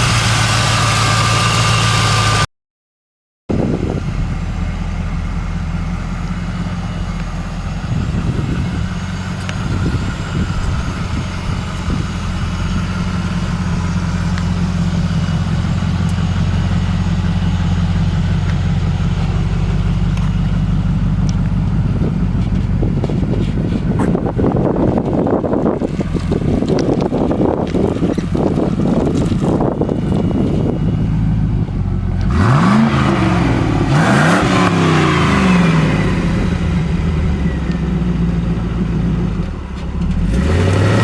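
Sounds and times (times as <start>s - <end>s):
car engine running steadily: 0.0s - 2.4s, 3.5s - 41.0s.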